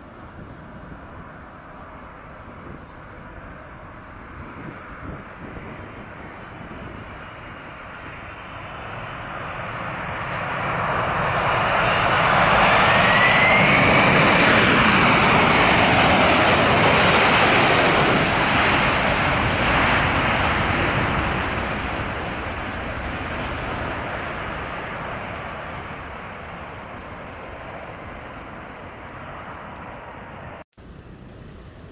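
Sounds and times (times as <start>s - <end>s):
jet engines reverse thrust whine: 0.0s - 31.9s.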